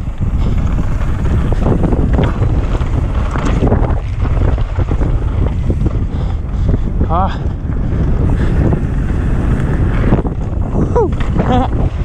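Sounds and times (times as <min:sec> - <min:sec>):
bike clattering: 0:00.0 - 0:12.0
tyres rumbling on dirt trail: 0:00.0 - 0:12.0
wind buffeting microphone: 0:00.0 - 0:12.0.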